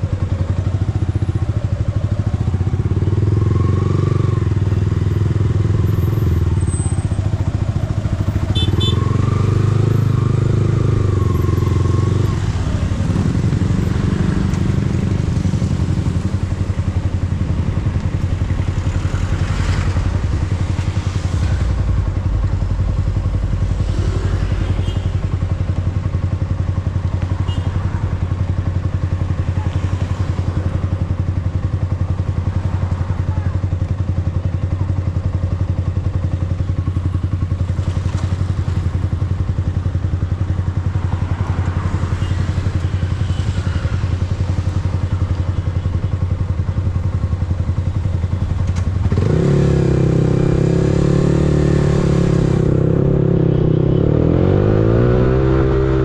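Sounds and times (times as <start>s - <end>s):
vehicles passing: 0.0s - 56.0s
motorcycle engine idling: 4.4s - 20.8s, 21.6s - 54.0s.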